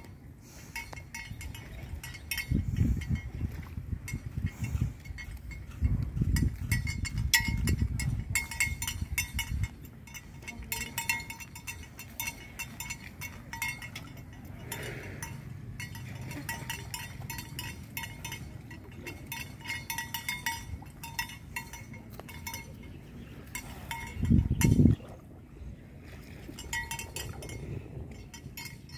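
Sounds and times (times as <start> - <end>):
small metal bells clinking: 0.8 - 3.5, 4.1 - 24.8, 26.6 - 28.9.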